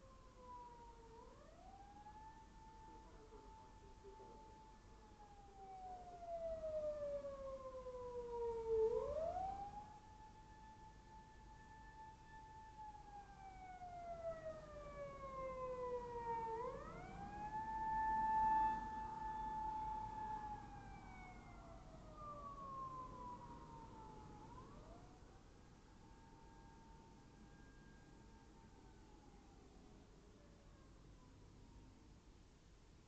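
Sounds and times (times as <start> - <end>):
emergency siren wailing: 0.0 - 29.9.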